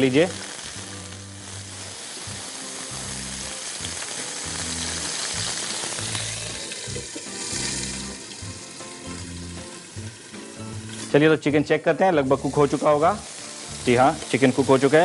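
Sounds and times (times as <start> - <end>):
background music bass notes: 0.0 - 15.0
food sizzling in frying pan: 0.0 - 15.0.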